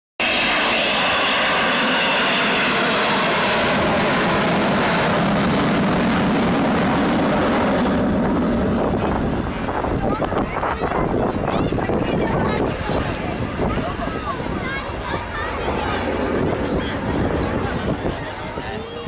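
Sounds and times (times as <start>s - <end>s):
jet aircraft passing: 0.2s - 19.0s.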